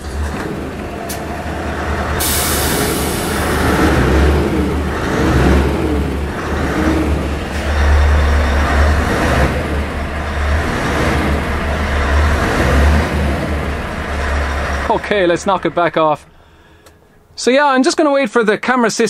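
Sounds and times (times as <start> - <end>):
diesel truck engine revving: 0.0 - 16.4.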